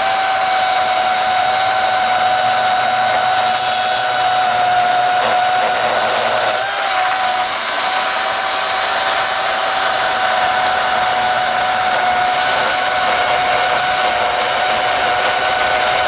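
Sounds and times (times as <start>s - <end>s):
electric chainsaw motor whining: 0.0s - 16.0s.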